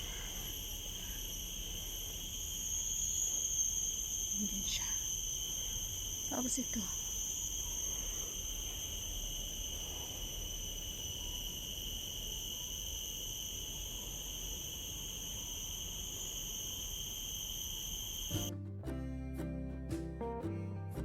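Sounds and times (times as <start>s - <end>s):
insects chirring: 0.0s - 18.5s.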